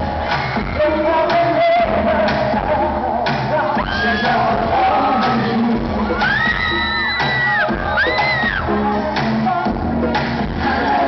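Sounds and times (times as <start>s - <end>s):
amplified backing music: 0.0s - 11.0s.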